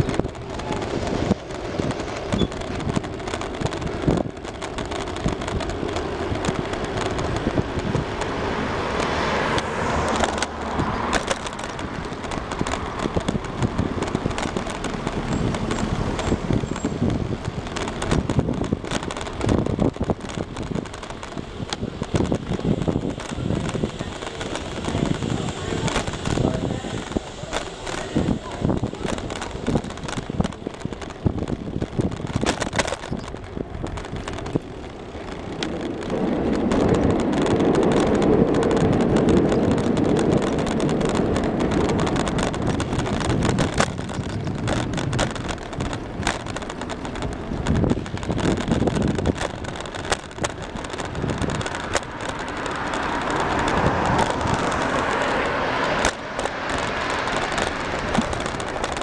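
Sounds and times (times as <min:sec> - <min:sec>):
bicycle clicks and rattles: 0:00.0 - 0:59.0
bicycle tyres rumbling on paving: 0:00.0 - 0:59.0
wind buffeting microphone: 0:00.0 - 0:59.0.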